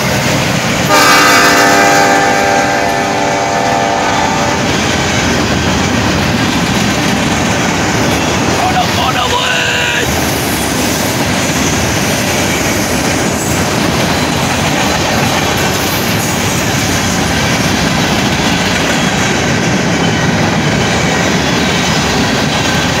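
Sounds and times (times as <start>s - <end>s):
freight train rumbling past: 0.0s - 23.0s
wheels clattering on rails: 0.0s - 23.0s.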